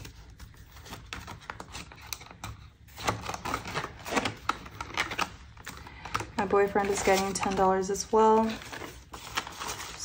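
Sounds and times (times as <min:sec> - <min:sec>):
paper banknotes rustling: 0:00.0 - 0:10.0
plastic envelope crinkling: 0:00.0 - 0:10.0.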